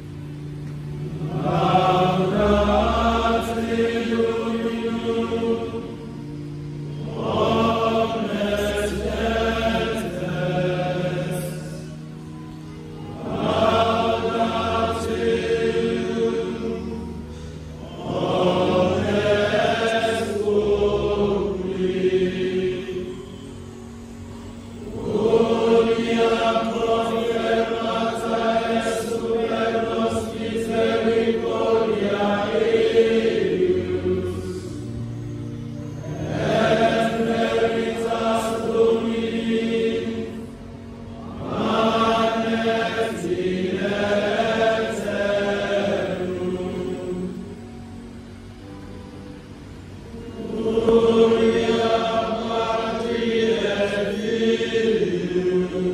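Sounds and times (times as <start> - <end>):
male choir singing a hymn: 0.0 - 49.0, 50.1 - 55.9.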